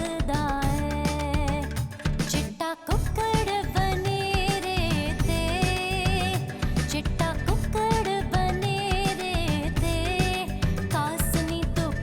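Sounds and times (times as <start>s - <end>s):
film-style song over steady beat: 0.0s - 12.0s.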